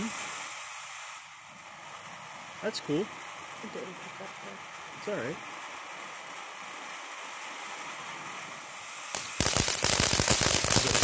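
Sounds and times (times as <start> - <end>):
firework crackling: 0.0 - 11.0
fountain firework hissing: 0.0 - 11.0.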